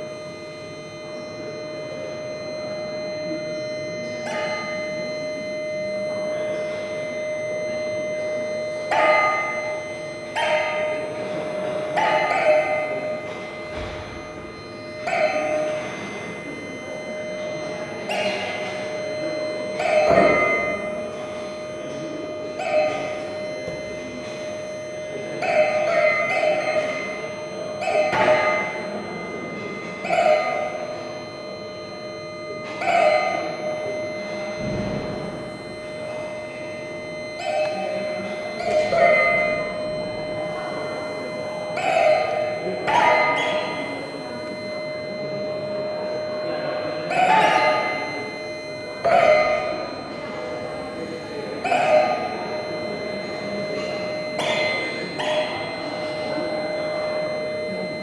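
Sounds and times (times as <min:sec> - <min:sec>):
electronic held tone: 0:00.0 - 0:58.0
ringing strikes: 0:00.0 - 0:58.0.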